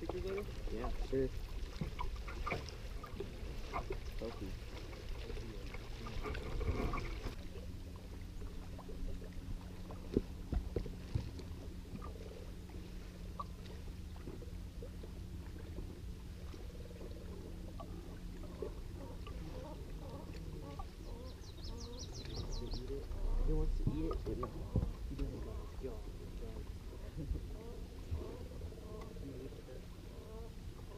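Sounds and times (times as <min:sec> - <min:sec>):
boat engine low rumble: 0:00.0 - 0:30.9
faint steady hum: 0:00.0 - 0:30.9.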